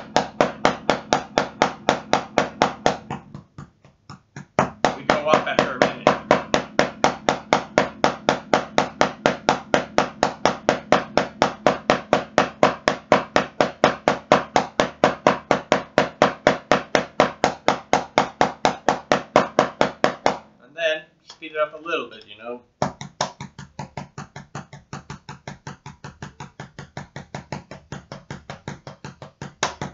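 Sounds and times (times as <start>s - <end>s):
drumsticks tapping practice pad: 0.0s - 20.5s, 22.1s - 29.9s.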